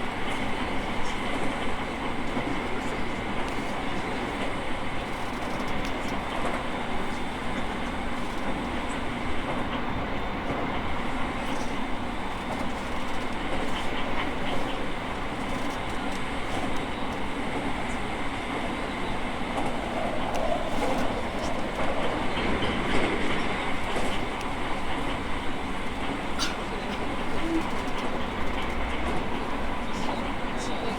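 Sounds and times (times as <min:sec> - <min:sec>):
train interior rumble: 0:00.0 - 0:30.9.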